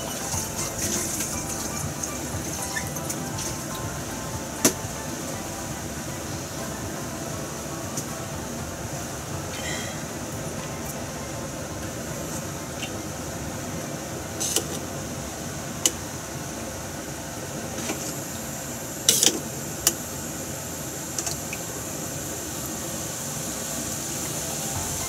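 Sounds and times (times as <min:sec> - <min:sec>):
kitchen background hiss: 0:00.0 - 0:25.0.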